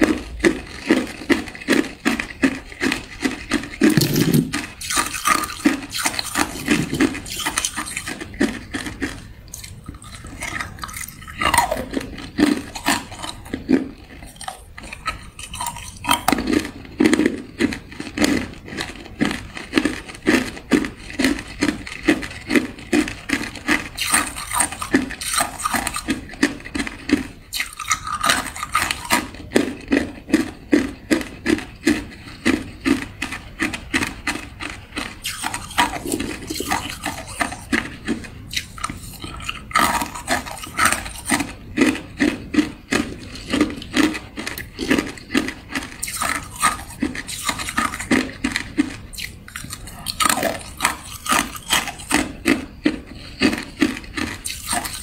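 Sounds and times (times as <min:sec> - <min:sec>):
ice crunching in mouth: 0:00.0 - 0:55.0.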